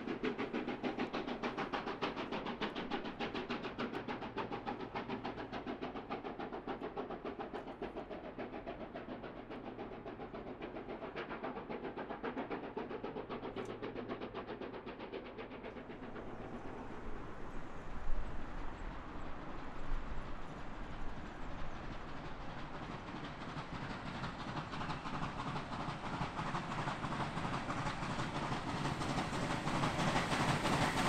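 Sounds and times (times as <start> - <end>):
steam locomotive exhaust beating: 0.0 - 31.0
train rolling on rails: 0.0 - 31.0.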